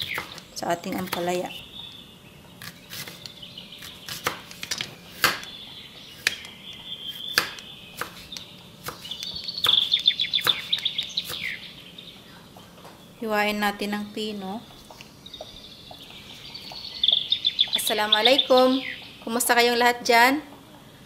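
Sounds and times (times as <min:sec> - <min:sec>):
bird chirping: 0:00.0 - 0:19.9.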